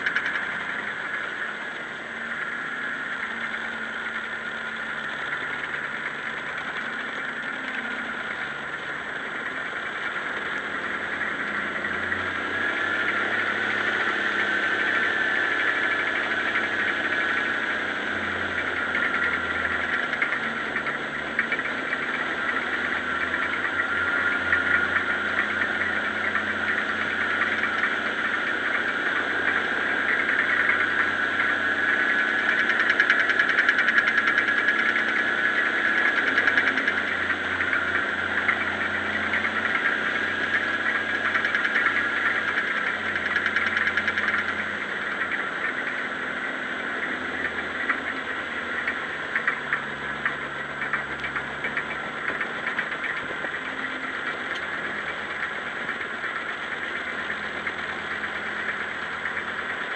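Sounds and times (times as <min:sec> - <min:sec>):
groomer engine running under load: 0:00.0 - 0:59.9.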